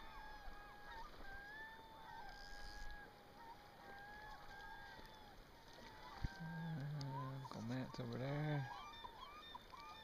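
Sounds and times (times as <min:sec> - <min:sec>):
gulls calling: 0:00.0 - 0:10.0.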